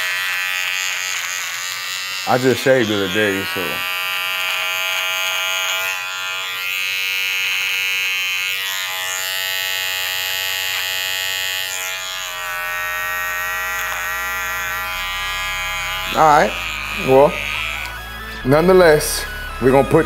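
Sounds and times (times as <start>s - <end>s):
hair trimmer buzzing: 0.0s - 20.0s.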